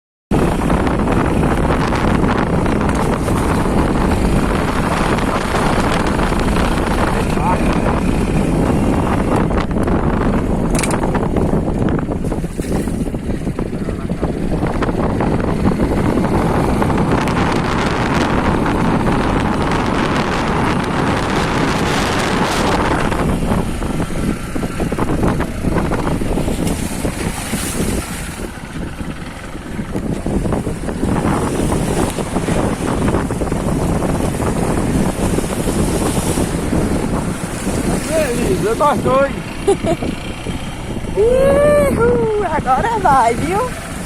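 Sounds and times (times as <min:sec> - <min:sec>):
wind buffeting microphone: 0:00.3 - 0:44.0.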